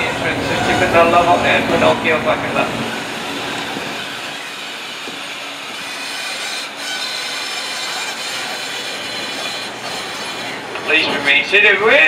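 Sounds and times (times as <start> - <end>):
tram rattling hum: 0.0 - 11.7.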